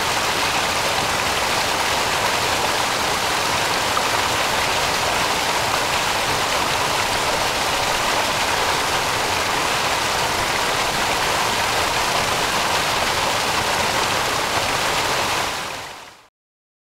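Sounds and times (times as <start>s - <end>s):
stream water running: 0.0s - 16.2s.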